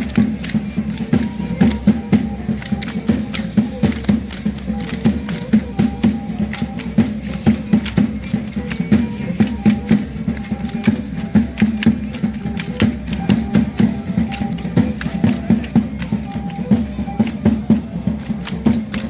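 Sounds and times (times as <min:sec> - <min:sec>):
drum beating fast rhythm: 0:00.0 - 0:19.0
sharp rhythmic clicks: 0:00.0 - 0:19.0
violin: 0:00.0 - 0:19.0.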